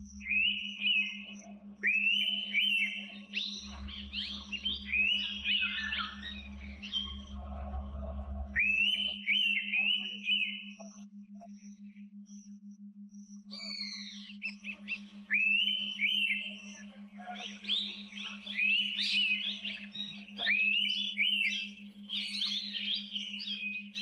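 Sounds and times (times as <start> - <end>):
low pulsing hum: 0.0 - 24.0
bird whistled calls: 0.2 - 7.3, 8.5 - 11.0, 13.4 - 24.0.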